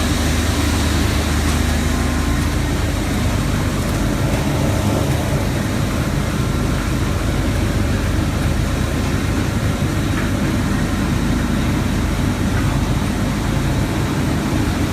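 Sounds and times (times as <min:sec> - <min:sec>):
heavy low machinery drone: 0:00.0 - 0:14.9.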